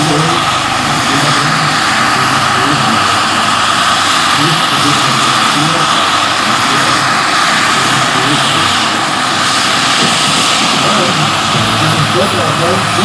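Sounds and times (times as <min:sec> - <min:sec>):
gas turbine whine: 0:00.0 - 0:13.0
helicopter rotor turning: 0:00.0 - 0:13.0.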